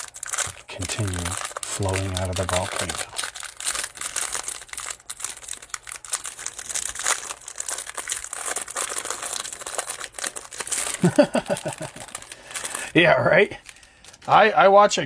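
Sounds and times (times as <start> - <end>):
plastic wrapper crinkling and tearing: 0.0 - 14.8.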